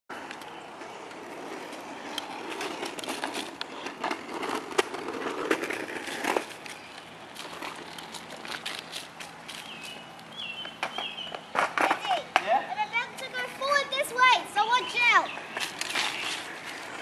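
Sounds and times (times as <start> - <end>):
bicycle tyres rolling on asphalt: 0.1 - 17.0.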